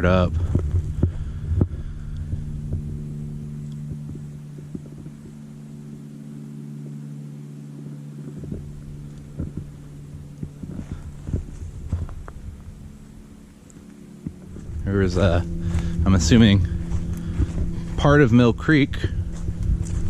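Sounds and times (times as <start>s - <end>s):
footsteps: 0.0s - 5.5s, 8.2s - 20.0s
microphone handling: 0.0s - 6.0s, 8.2s - 20.0s
steady low hum: 0.0s - 20.0s.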